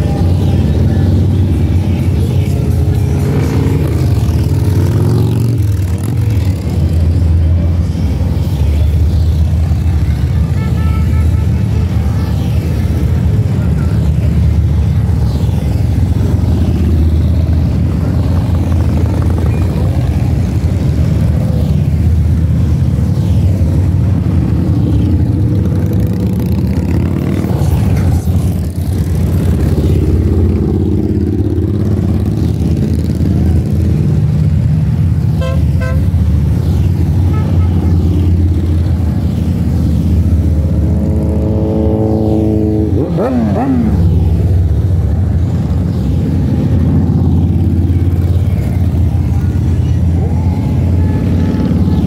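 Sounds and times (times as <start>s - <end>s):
motorcycles rumbling past: 0.0s - 10.5s, 12.0s - 35.2s, 36.4s - 52.0s.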